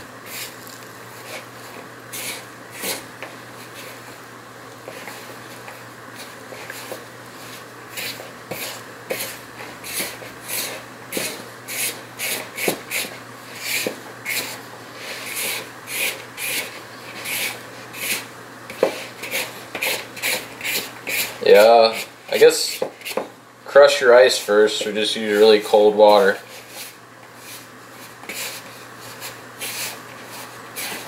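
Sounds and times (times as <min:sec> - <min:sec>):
dough scraping against plastic bowl: 0:04.9 - 0:31.0.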